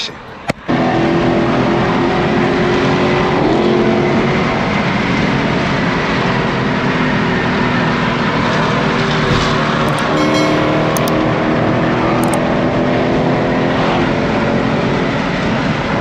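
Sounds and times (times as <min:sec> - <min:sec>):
car engine drone: 0:00.0 - 0:16.0
road and wind noise: 0:00.0 - 0:16.0.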